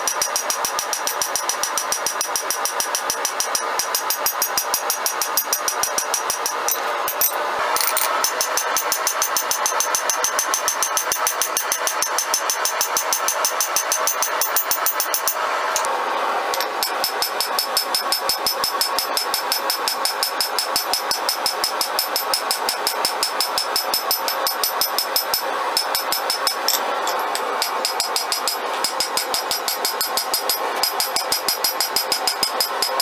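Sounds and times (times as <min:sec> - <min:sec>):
hammer striking metal on anvil: 0:00.0 - 0:15.9, 0:16.5 - 0:33.0.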